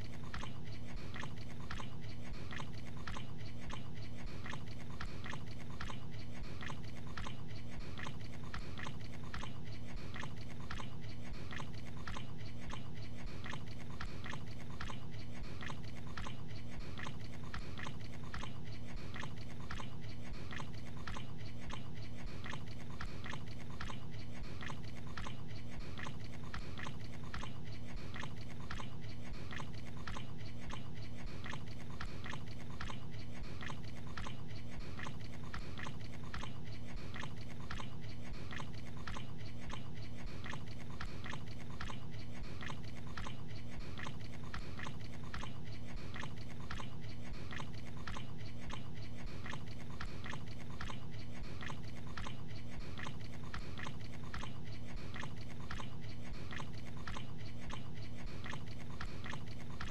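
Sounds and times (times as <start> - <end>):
man chewing with wet smacking: 0.0 - 59.9
steady low hum: 0.0 - 59.9.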